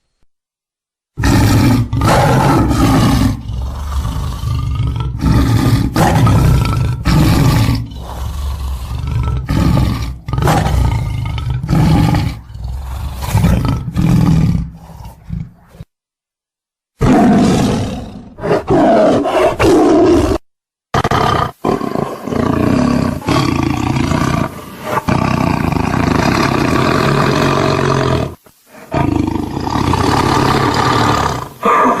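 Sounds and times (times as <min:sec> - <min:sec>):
tiger roaring and growling: 0:01.2 - 0:15.9, 0:17.0 - 0:32.0.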